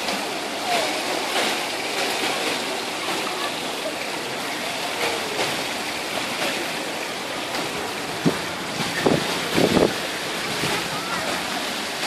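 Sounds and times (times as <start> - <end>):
pool water rushing: 0.0 - 12.0.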